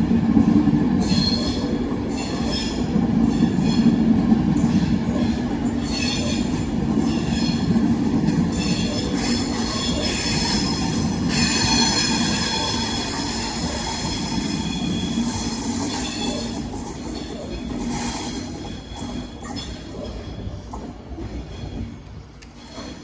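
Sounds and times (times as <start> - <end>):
train rumble: 0.0 - 23.0
train wheels squealing on rails: 1.0 - 23.0.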